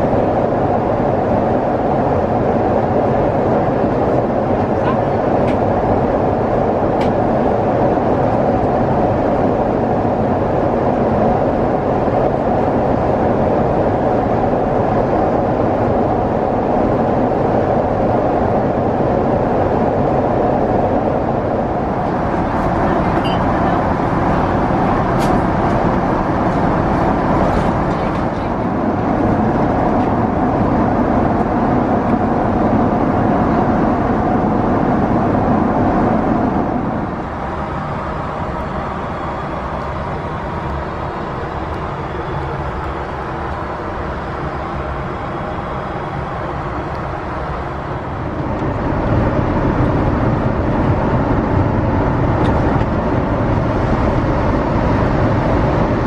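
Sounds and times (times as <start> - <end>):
airplane cabin engine noise: 0.0 - 56.0.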